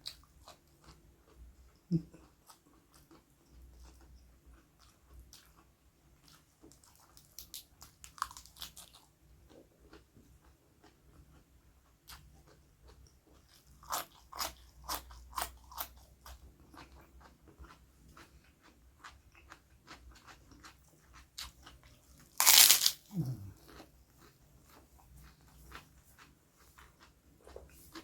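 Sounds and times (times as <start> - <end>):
crunching and chewing: 0.0 - 28.0.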